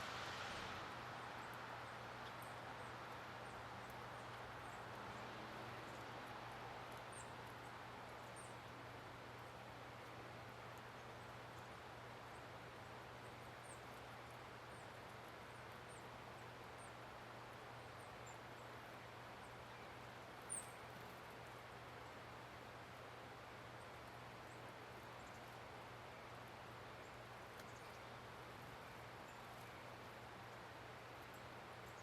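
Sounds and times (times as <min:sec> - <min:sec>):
small birds chipping: 0:01.2 - 0:32.0.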